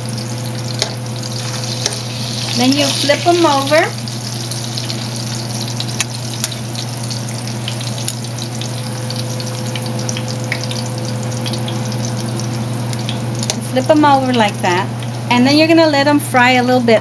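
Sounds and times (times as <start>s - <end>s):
tortillas sizzling in oil: 0.0s - 15.3s.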